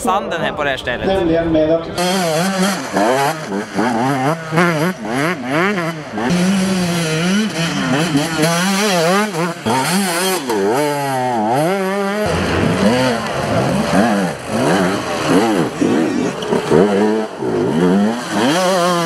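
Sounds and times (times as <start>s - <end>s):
motorcycle engine revving hard: 2.0s - 19.0s.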